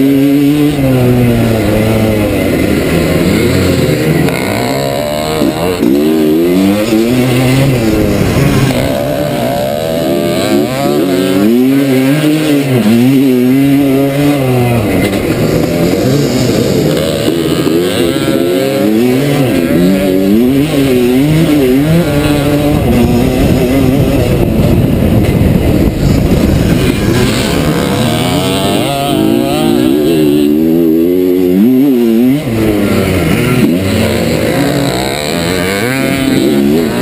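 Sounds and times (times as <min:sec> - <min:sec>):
motocross bike engine revving: 0:00.0 - 0:37.0
steady rushing noise: 0:00.0 - 0:37.0.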